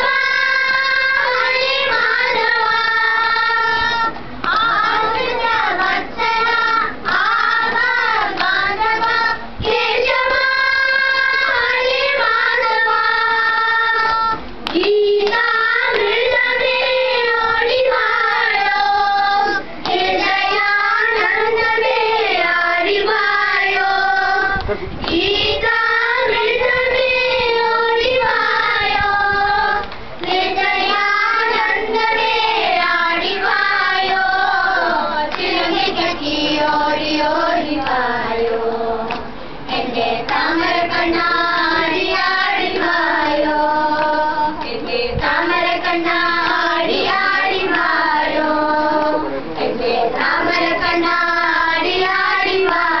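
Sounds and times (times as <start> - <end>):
children singing together: 0.0 - 53.0.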